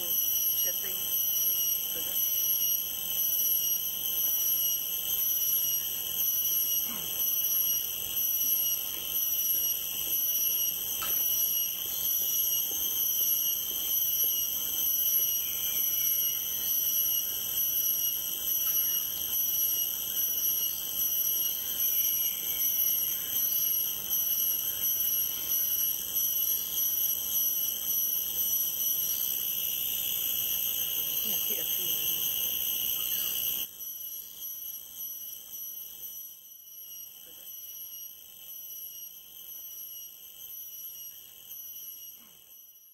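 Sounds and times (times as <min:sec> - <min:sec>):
insect chorus shrilling: 0:00.0 - 0:42.9.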